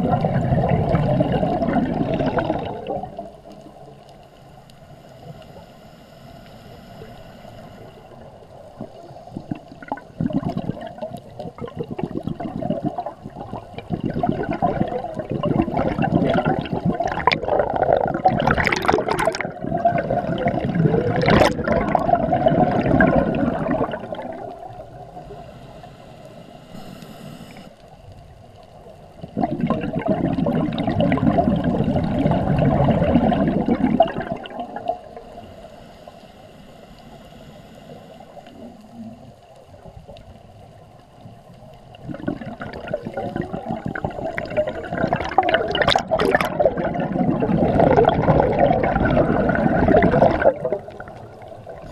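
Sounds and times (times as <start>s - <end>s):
regulator bubbling underwater: 0.0s - 4.1s, 7.8s - 25.6s, 28.0s - 35.8s, 37.9s - 51.9s.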